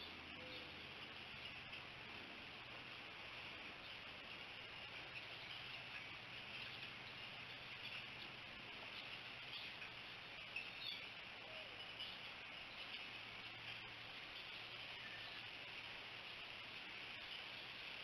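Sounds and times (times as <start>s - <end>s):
faint insect chorus: 0.0s - 18.0s.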